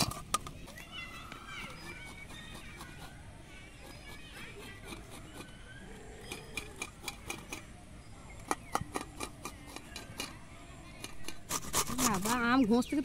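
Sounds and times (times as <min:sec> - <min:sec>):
metal tool scraping mango: 0:00.0 - 0:07.7, 0:08.4 - 0:12.7.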